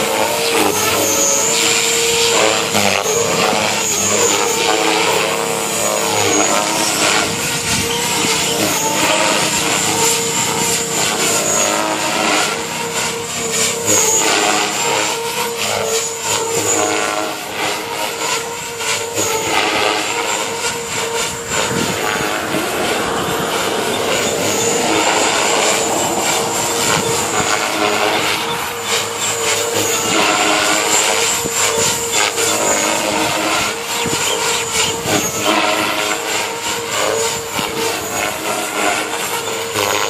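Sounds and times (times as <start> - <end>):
model helicopter rotor whine: 0.0 - 40.0.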